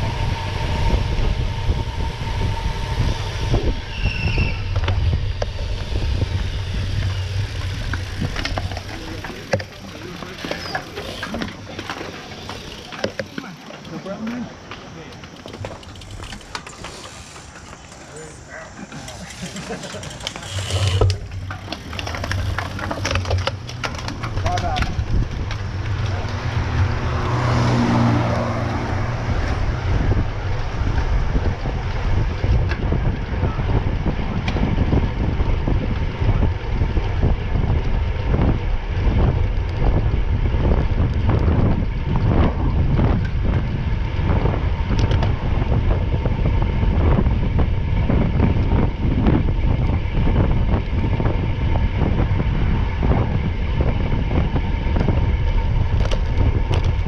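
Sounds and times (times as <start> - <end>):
wind buffeting microphone: 0.0 - 13.0, 15.4 - 57.0
vehicle rumble: 0.0 - 57.0.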